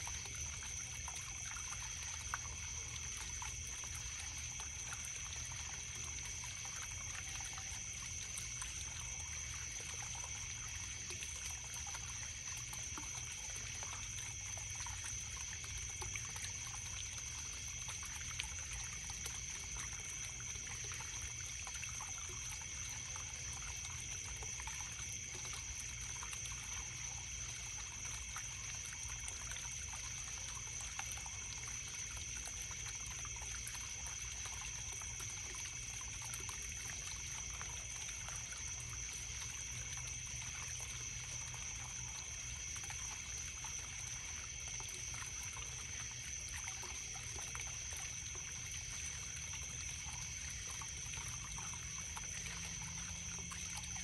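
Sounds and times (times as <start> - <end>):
crickets trilling: 0.0 - 54.0
stream trickling: 0.0 - 54.0.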